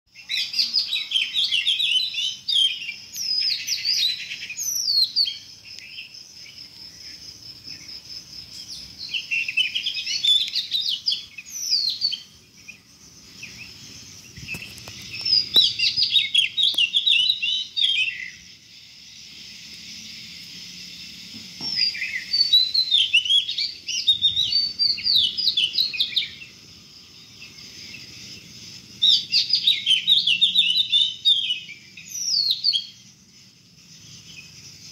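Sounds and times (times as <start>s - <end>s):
birds chirping and twittering: 0.1s - 34.9s.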